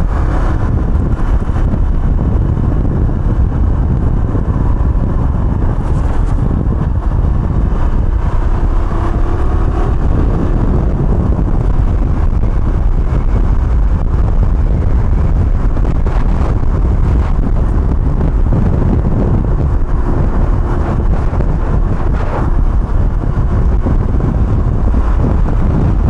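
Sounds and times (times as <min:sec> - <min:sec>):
moped engine running: 0:00.0 - 0:26.0
wind buffeting microphone: 0:00.0 - 0:26.0.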